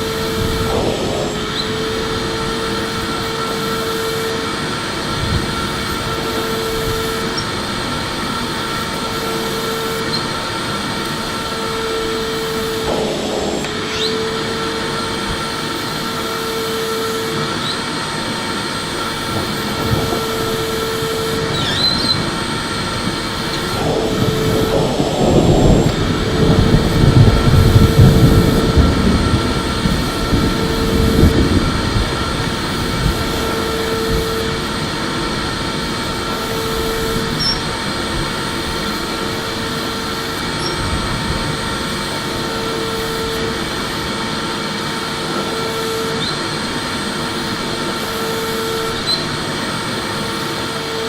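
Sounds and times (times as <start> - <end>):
pulsing humming tone: 0.0 - 49.6
vacuum cleaner running: 0.0 - 51.0.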